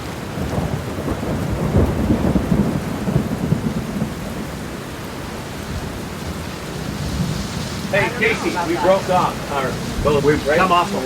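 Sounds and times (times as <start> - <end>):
heavy rain pouring: 0.0 - 11.0
thunder rumbling: 0.0 - 11.0.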